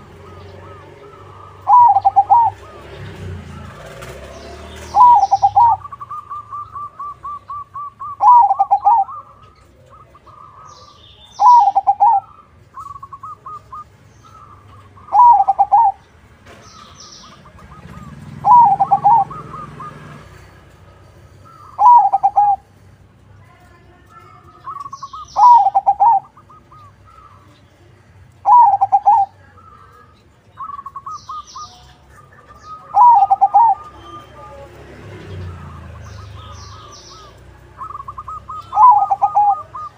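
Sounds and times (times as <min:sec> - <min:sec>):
dove cooing: 0:00.0 - 0:16.1, 0:17.2 - 0:22.9, 0:24.1 - 0:34.7, 0:35.4 - 0:39.9.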